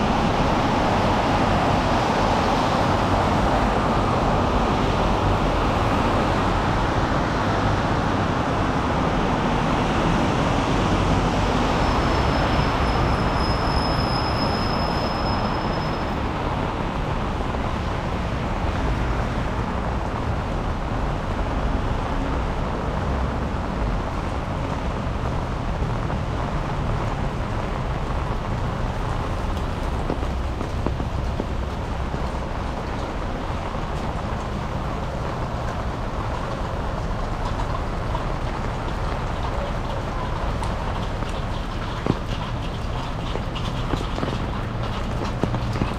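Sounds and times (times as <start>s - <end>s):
tyres hissing on wet road: 0.0s - 45.9s.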